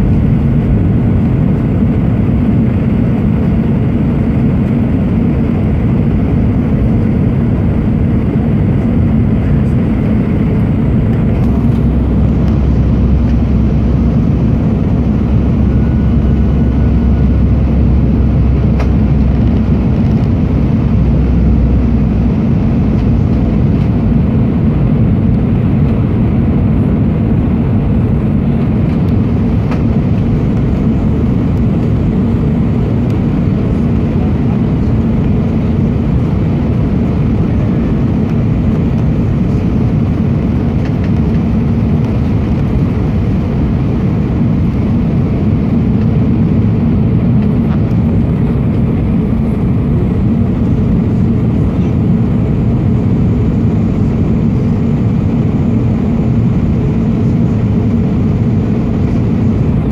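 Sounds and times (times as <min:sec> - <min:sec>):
jet engines and airflow rushing: 0:00.0 - 0:59.9.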